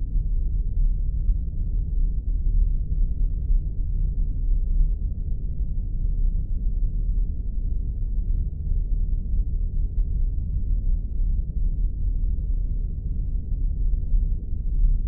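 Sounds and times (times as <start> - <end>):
deep spaceship rumble: 0.0 - 15.0.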